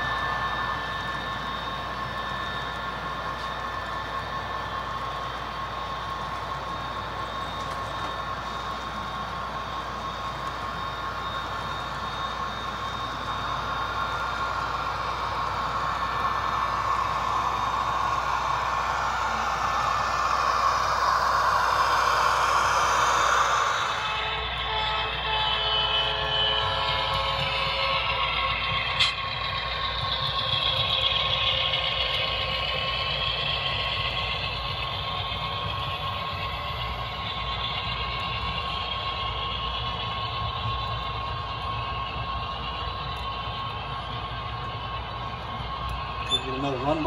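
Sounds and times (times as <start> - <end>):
model diesel locomotive: 0.0 - 47.0
model train cars rolling: 0.0 - 47.0.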